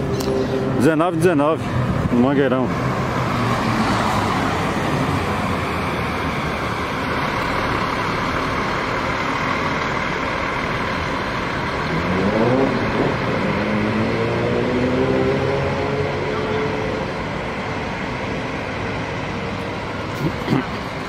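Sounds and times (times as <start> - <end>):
bus engine revving: 0.0 - 21.0
road traffic noise: 0.0 - 21.0.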